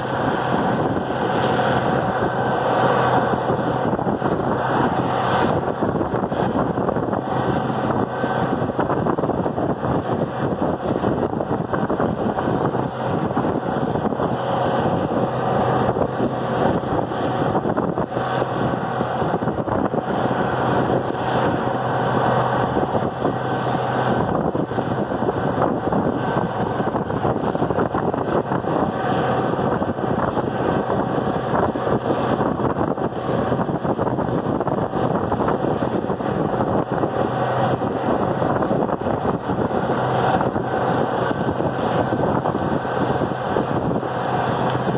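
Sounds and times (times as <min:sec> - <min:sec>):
tractor engine running: 0:00.0 - 0:44.9
wind on microphone: 0:00.0 - 0:44.9.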